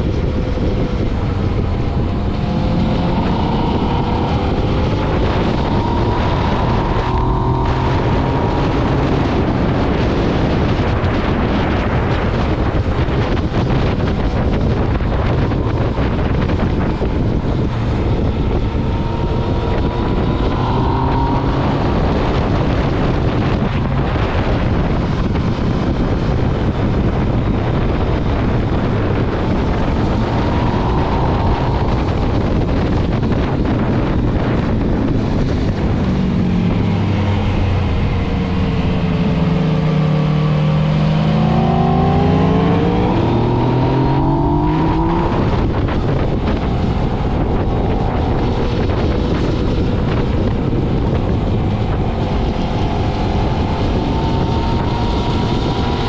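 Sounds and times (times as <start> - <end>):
heavy wind noise: 0.0 - 56.0
motorcycle engine revving: 0.0 - 56.0.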